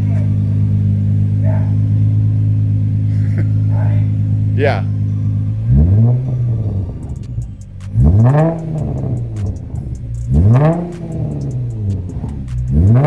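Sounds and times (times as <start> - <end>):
car engine revving from idle: 0.0 - 13.0.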